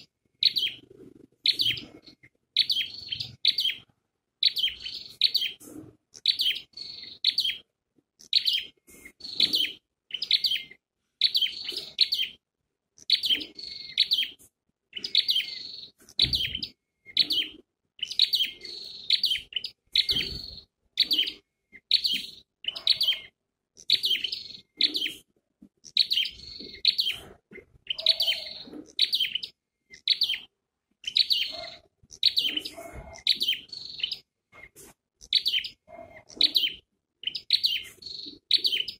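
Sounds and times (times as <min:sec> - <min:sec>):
bird high quick chirps: 0:01.4 - 0:05.6, 0:06.2 - 0:07.6, 0:08.2 - 0:12.4, 0:13.0 - 0:25.3, 0:25.9 - 0:38.9.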